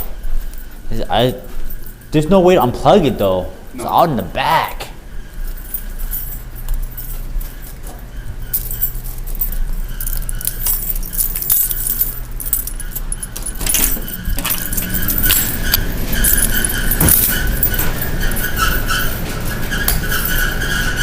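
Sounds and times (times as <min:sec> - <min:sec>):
metallic jingling rattle: 0:00.0 - 0:04.3, 0:05.0 - 0:20.7
clothes dryer humming: 0:00.0 - 0:21.0.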